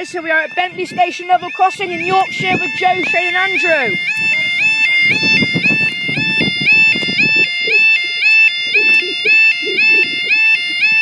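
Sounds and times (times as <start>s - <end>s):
level crossing warning alarm: 0.0s - 11.0s.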